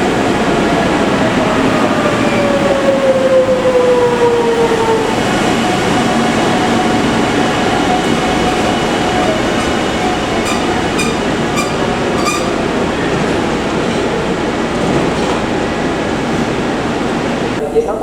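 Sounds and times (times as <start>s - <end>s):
train wheels rumbling on rail: 0.0s - 17.6s.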